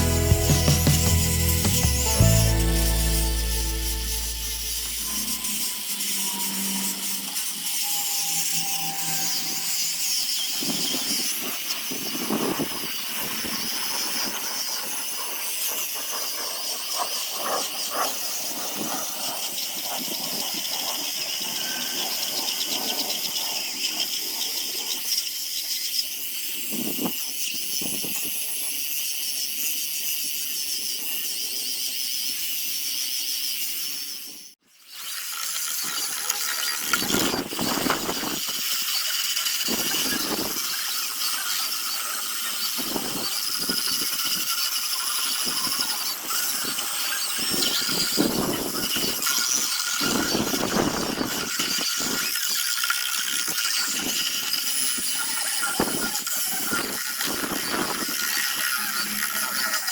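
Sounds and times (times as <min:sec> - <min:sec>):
power sander on wood: 0:00.0 - 0:25.2, 0:34.9 - 0:59.9.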